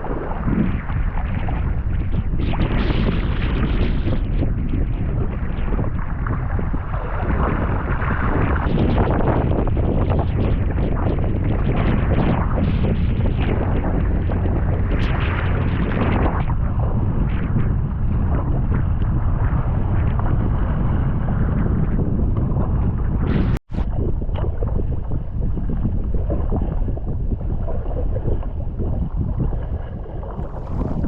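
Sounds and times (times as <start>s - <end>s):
water splashing around kayak: 0.0s - 31.0s
wind buffeting microphone: 0.0s - 31.0s.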